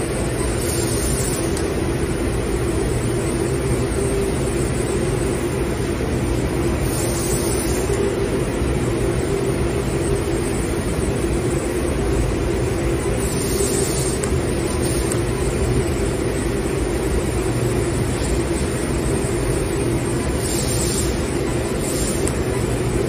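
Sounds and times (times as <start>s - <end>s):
laser cutting machine drone: 0.0s - 23.0s.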